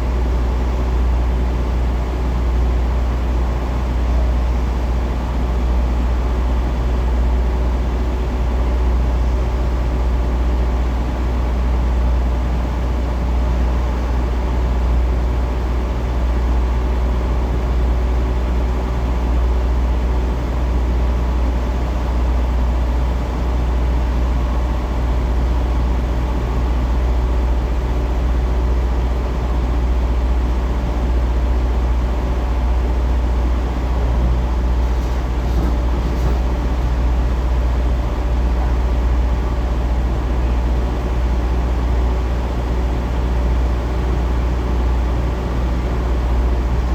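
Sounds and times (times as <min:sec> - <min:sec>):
diesel truck engine rumbling: 0:00.0 - 0:46.9.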